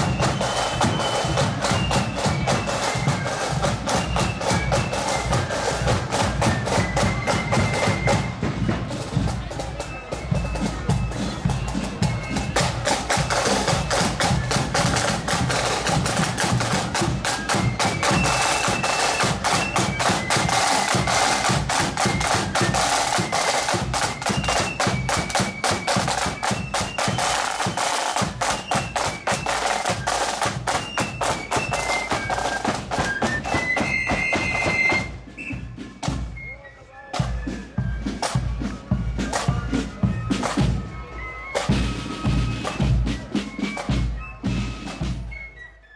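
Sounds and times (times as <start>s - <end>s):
snare drums rattling: 0.0s - 36.5s, 37.1s - 45.4s
flutes playing melody: 0.0s - 45.9s.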